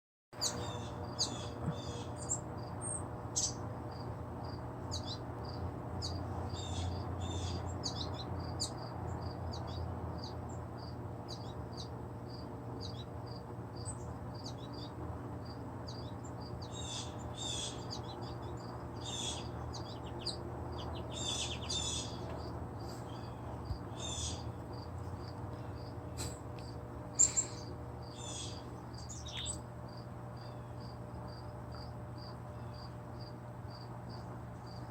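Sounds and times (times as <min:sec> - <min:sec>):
low steady hum: 0:00.4 - 0:34.9
songbirds chirping and trilling: 0:00.4 - 0:34.9.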